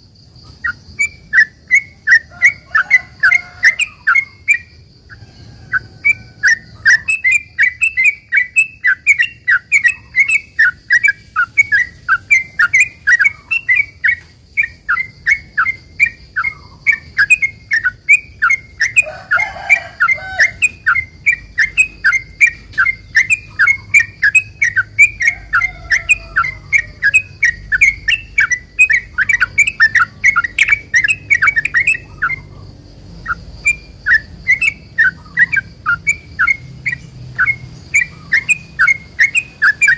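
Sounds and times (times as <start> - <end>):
bird singing bubbling chirps: 0.0 - 39.9.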